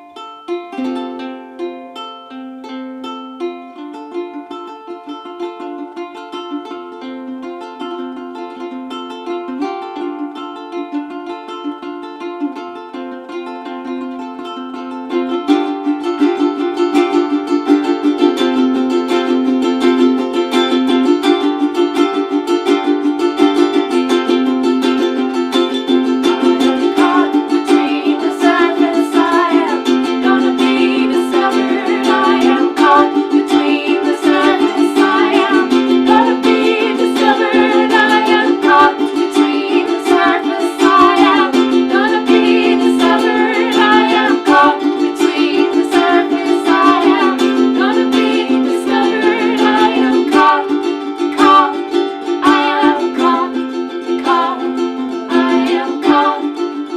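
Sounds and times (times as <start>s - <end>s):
electric ukuleles strumming chords: 0.0s - 56.9s
wavering ukulele melody: 0.0s - 56.9s.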